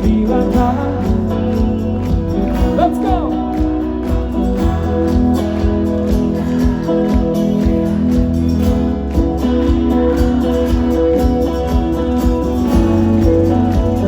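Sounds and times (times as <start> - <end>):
bass line: 0.0 - 14.0
steady drum beat: 0.0 - 14.0
strummed guitar: 0.0 - 14.0.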